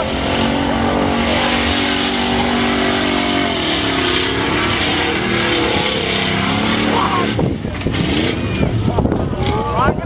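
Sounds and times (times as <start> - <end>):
engine revving hard: 0.0 - 8.8.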